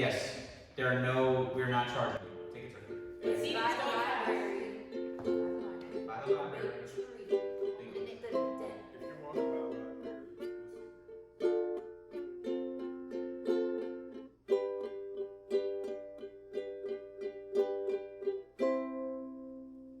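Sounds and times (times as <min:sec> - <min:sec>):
ukulele strumming chords: 0:02.1 - 0:20.0.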